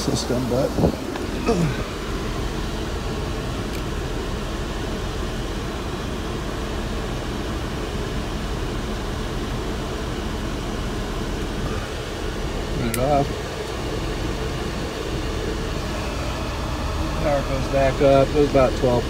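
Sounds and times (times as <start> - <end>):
electric cooling fans rushing: 0.0 - 19.0.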